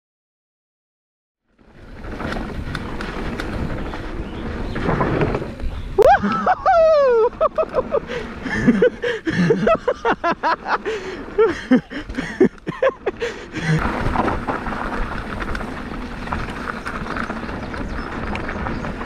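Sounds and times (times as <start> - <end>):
mountain bike rolling on trail: 1.4 - 19.0.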